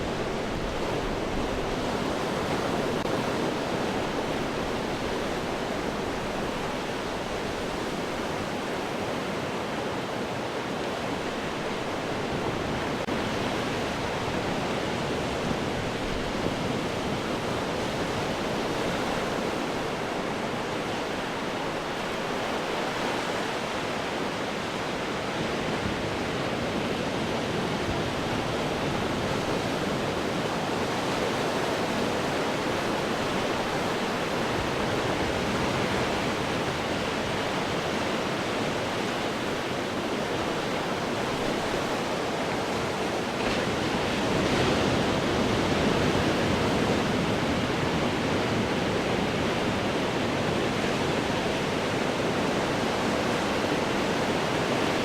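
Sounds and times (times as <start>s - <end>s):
ocean waves breaking on rocks: 0.0s - 55.0s.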